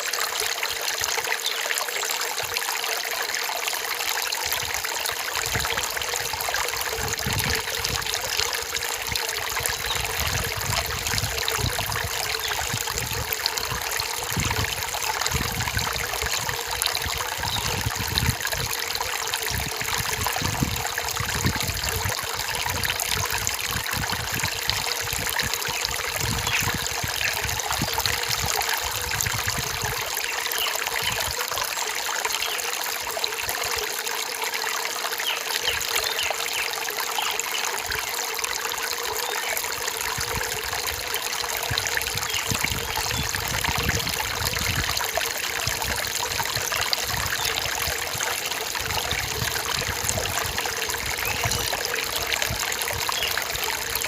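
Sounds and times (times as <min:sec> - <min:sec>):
stream trickling over stones: 0:00.0 - 0:54.0
water gurgling: 0:00.0 - 0:54.0.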